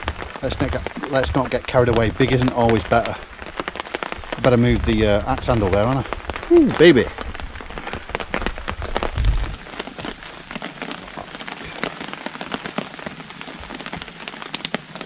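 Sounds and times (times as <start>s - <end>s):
campfire crackling and popping: 0.0s - 15.0s
heavy rain on a tarp: 0.0s - 15.0s.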